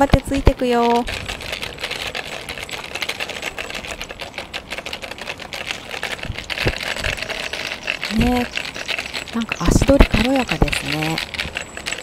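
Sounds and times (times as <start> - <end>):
irregular clicking rattle: 0.0 - 12.0
wheels rolling over asphalt: 0.0 - 12.0.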